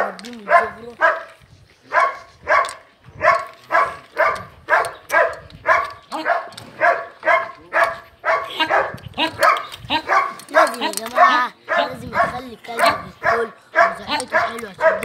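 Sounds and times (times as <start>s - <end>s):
dog barking: 0.0s - 15.0s.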